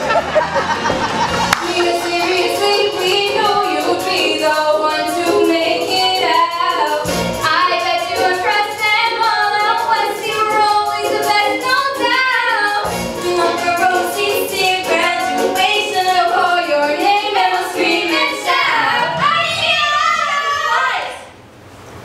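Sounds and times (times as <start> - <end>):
musical accompaniment with steady beat: 0.0 - 19.2
women singing show tune: 1.6 - 21.2.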